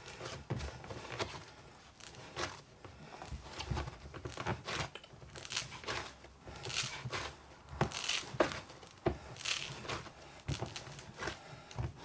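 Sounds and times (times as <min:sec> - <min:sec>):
hands squishing dough: 0:00.0 - 0:12.0.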